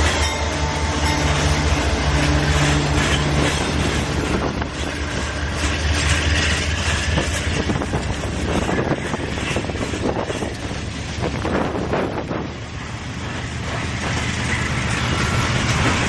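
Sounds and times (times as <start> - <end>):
diesel locomotive engine drone: 0.0 - 16.0
train wheels clicking over joints: 0.0 - 16.0.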